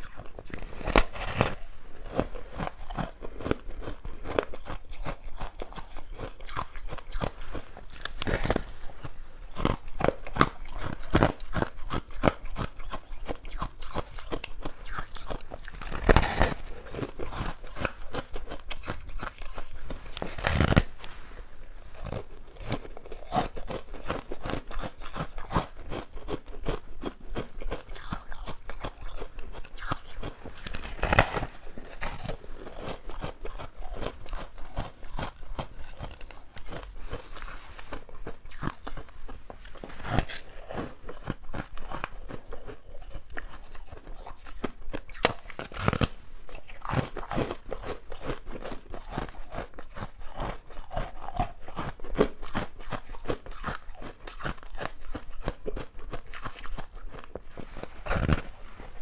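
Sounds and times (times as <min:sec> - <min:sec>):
crunching and chewing ice: 0:00.0 - 0:59.0.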